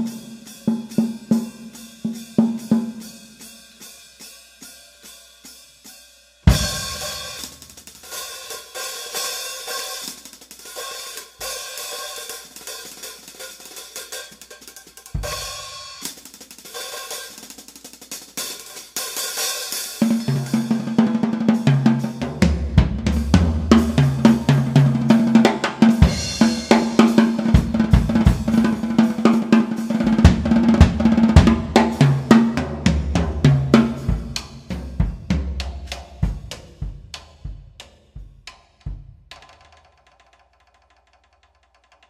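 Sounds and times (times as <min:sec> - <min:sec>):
jazz drum kit playing: 0:00.0 - 0:39.9.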